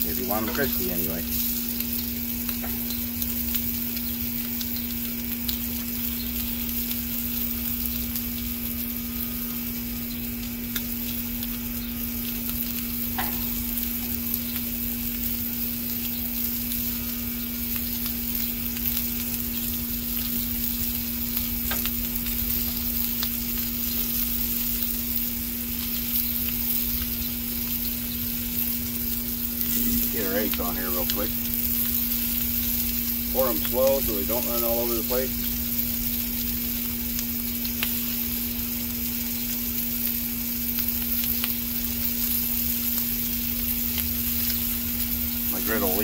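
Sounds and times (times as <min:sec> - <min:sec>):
sausage patties sizzling on griddle: 0:00.0 - 0:46.0
steady low hum: 0:00.0 - 0:46.0.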